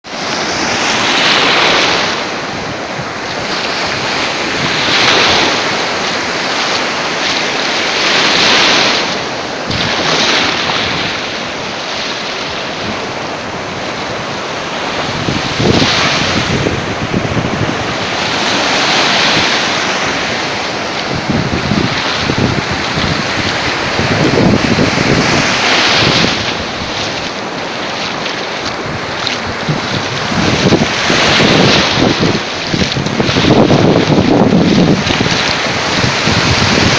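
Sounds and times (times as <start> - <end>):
sea waves breaking ashore: 0.0 - 36.9
wind buffeting microphone: 0.0 - 36.9.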